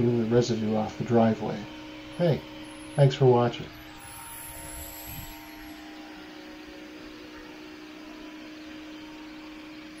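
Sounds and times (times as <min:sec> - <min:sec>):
mechanical hum with hiss: 0:00.0 - 0:10.0.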